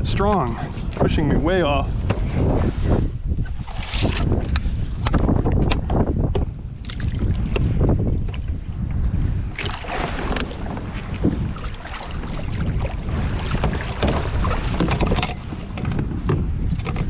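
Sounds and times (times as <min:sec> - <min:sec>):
water slapping kayak hull: 0:00.0 - 0:17.0
wind buffeting microphone: 0:00.0 - 0:17.0.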